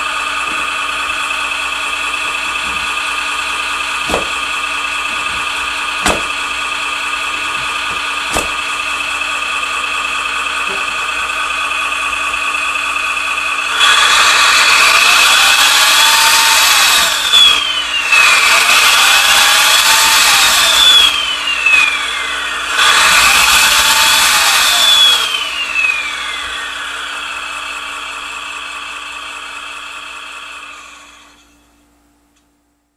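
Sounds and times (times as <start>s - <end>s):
engine revving: 0.0s - 31.4s
electronic diesel engine idling: 0.0s - 31.9s.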